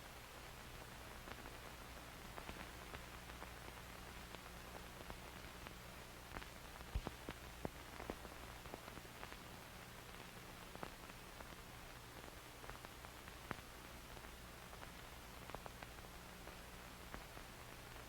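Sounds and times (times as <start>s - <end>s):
faint static hiss: 0.0s - 18.0s
crackles and pops: 0.6s - 18.0s.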